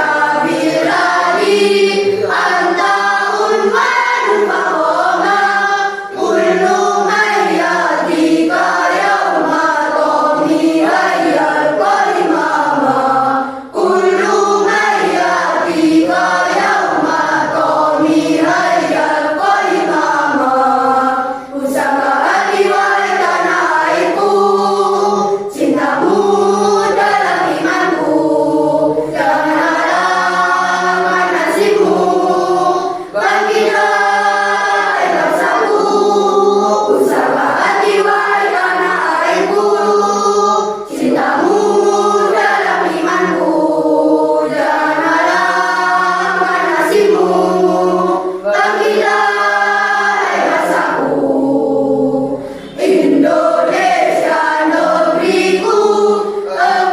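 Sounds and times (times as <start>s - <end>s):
children's choir singing: 0.0s - 56.9s.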